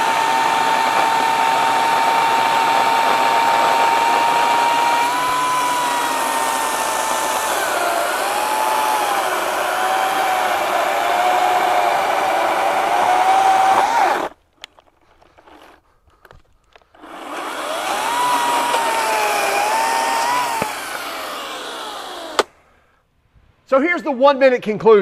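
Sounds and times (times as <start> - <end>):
chainsaw cutting a log: 0.0 - 14.4, 16.9 - 22.6.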